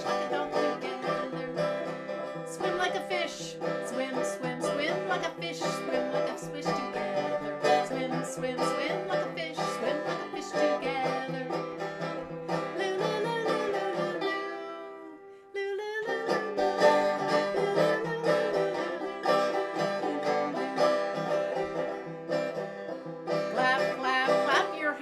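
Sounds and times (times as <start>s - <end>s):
plucked string instrument folk tune: 0.0s - 25.0s.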